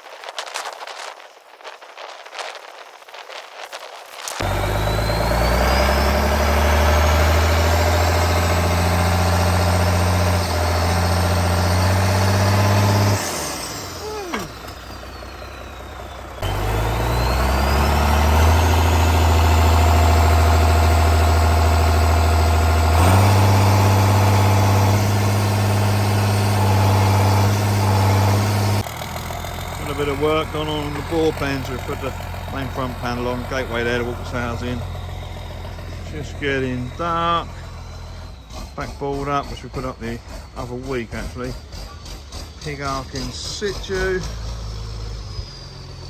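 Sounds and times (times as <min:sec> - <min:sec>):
high rising whine: 0:00.0 - 0:46.0
tractor engine running: 0:03.6 - 0:46.0.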